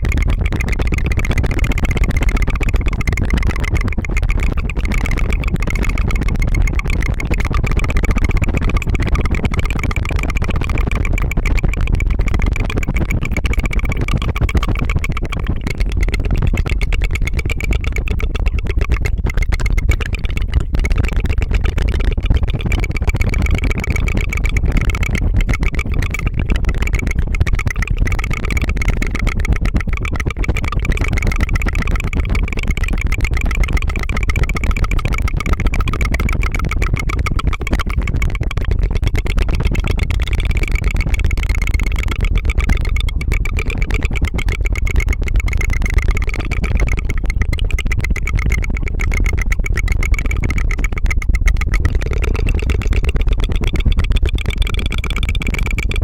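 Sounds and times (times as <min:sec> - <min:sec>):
tongue fluttering trill: 0:00.0 - 0:56.0.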